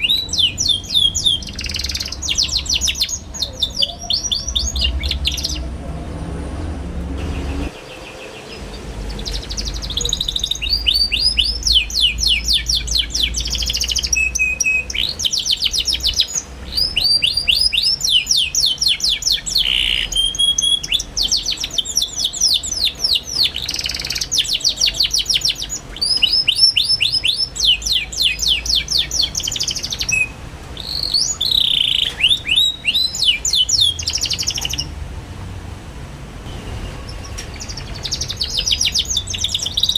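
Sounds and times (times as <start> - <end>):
canary singing trills: 0.0 - 35.0, 36.4 - 39.9.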